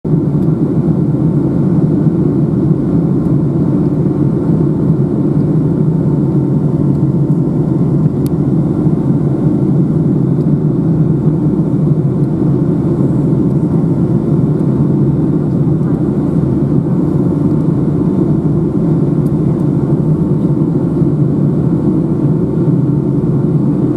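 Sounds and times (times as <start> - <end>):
airplane cabin rumble: 0.0 - 23.9.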